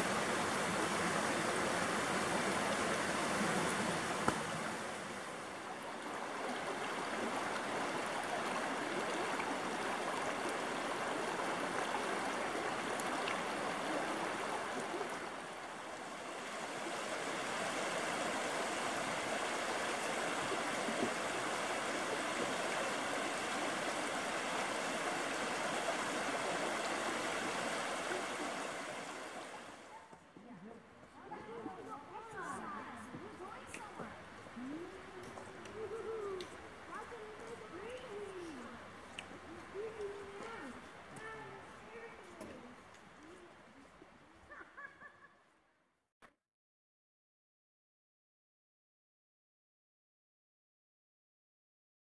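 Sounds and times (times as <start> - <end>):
creek flowing over rocks: 0.0 - 30.0, 30.8 - 44.4.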